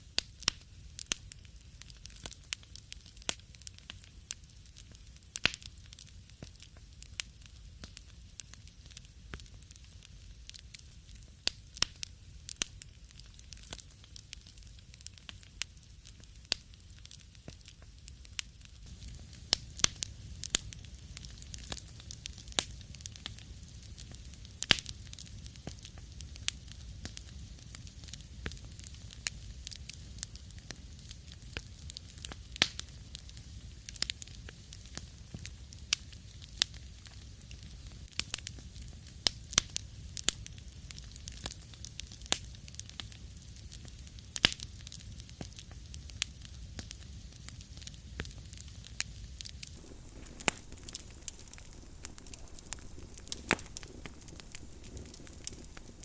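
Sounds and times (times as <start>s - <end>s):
wood fire crackling: 0.2s - 56.0s.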